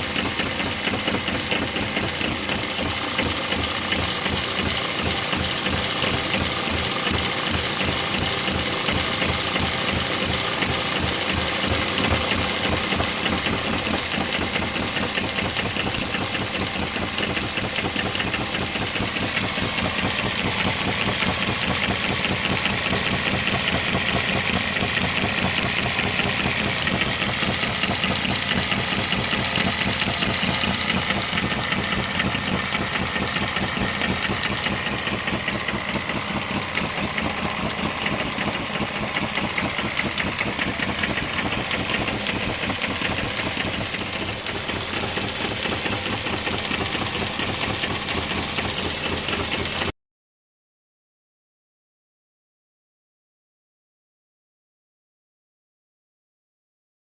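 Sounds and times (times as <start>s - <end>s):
model engine running: 0.0s - 49.9s.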